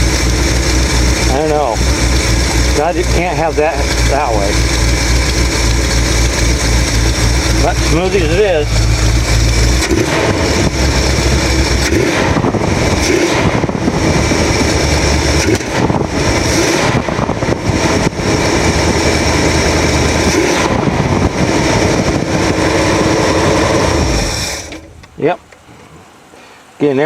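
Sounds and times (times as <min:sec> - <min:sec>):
engine running with low rumble: 0:00.0 - 0:26.8.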